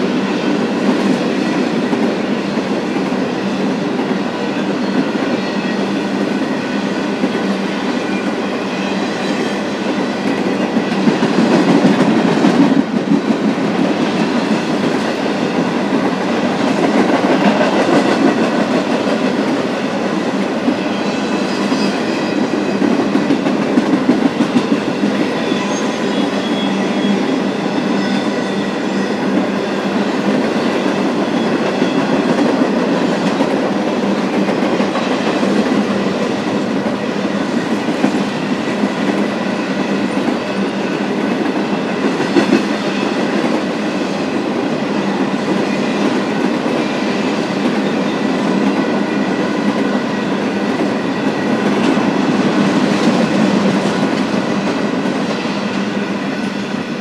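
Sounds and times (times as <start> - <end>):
train wheels clattering on rail: 0.0 - 57.0.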